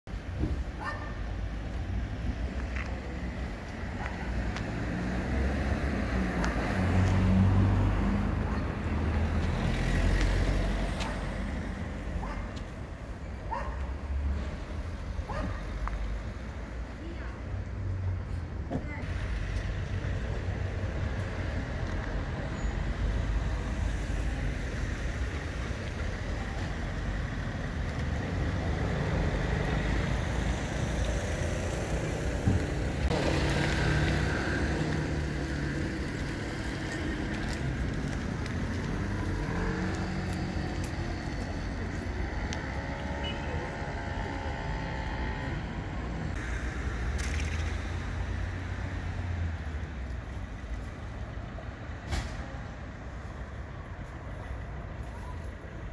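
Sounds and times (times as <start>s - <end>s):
traffic rumble: 0.1s - 55.9s
passing vehicle engines: 0.2s - 55.9s.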